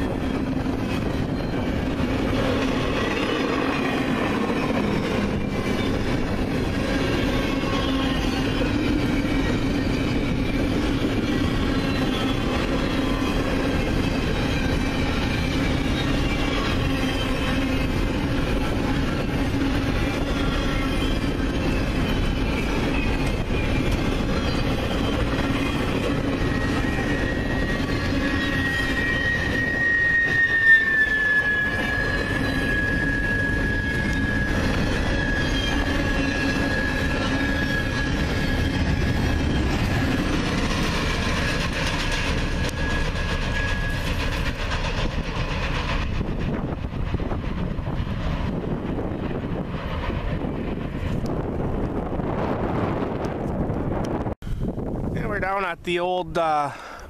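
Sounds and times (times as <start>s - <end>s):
high thin squeal: 0.0s - 46.1s
train wheels rumbling on rail: 0.0s - 57.0s.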